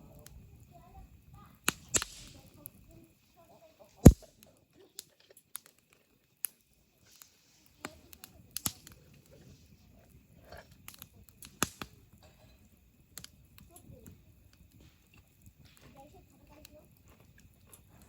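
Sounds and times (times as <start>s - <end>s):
fire hissing: 0.0s - 4.4s, 5.6s - 18.0s
campfire crackling and popping: 0.0s - 18.0s.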